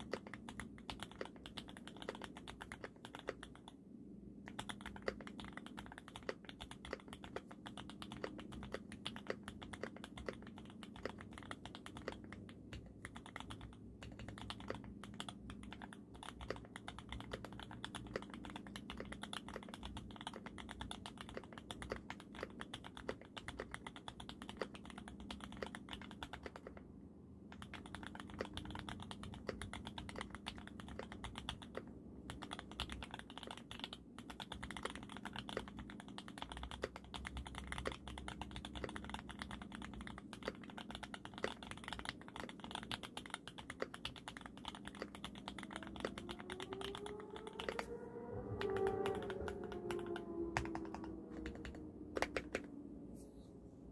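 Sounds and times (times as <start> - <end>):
mechanical keyboard typing: 0.0 - 3.8, 4.4 - 52.8.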